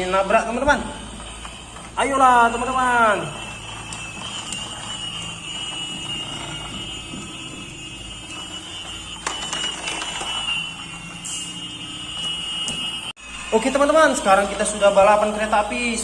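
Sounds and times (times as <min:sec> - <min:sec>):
toy train motors whining: 0:00.0 - 0:16.0.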